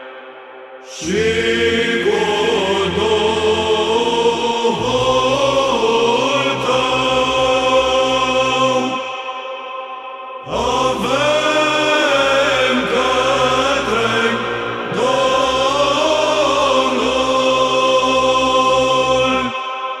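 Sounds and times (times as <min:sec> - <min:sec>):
group chanting over held drone: 0:00.0 - 0:20.0.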